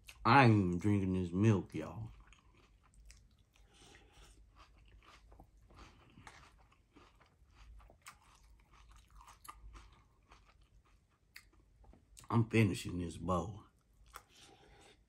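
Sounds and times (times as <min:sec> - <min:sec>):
crunchy chewing of cereal: 0:00.0 - 0:12.3, 0:13.7 - 0:15.0.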